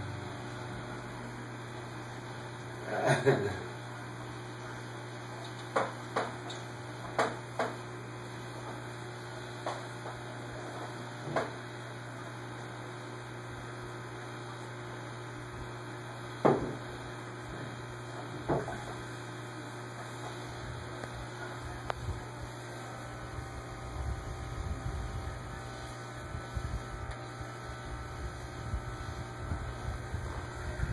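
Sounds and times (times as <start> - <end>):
aquarium filter pump humming: 0.0 - 30.9.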